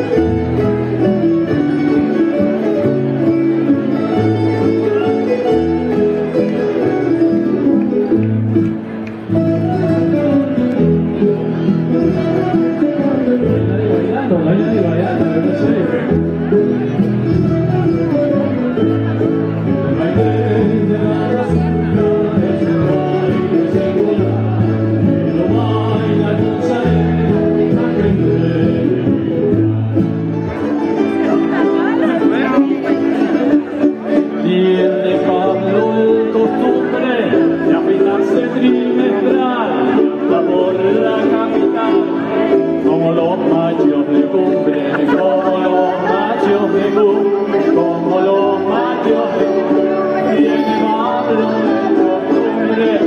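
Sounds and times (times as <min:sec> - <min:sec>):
bass line: 0:00.0 - 0:53.0
held string notes: 0:00.0 - 0:53.0
plucked strings: 0:00.0 - 0:53.0.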